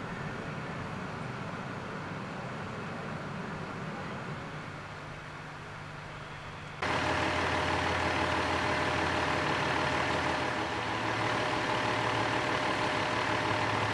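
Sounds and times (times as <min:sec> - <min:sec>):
fire engine idling: 0:00.0 - 0:13.9.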